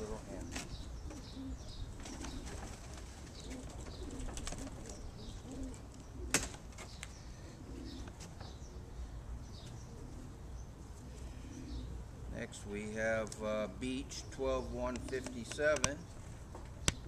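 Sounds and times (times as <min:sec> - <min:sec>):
pigeons cooing: 0:00.0 - 0:13.1, 0:14.2 - 0:16.1.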